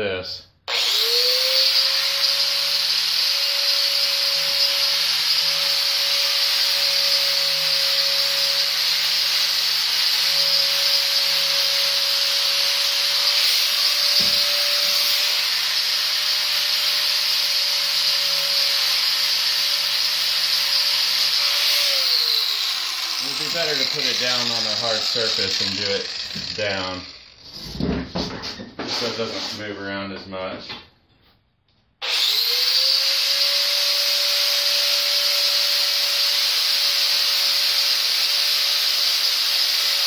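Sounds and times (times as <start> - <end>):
angle grinder sanding wood: 0.7 - 27.8, 32.0 - 40.0.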